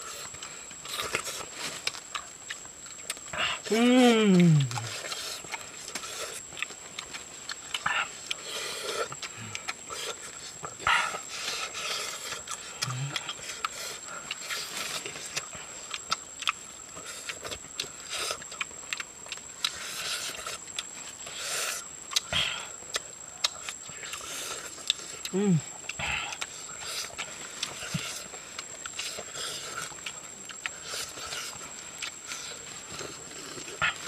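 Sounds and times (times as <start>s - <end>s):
faint high-pitched whine: 0.0s - 34.0s
wet chewing and lip-smacking: 0.0s - 34.0s.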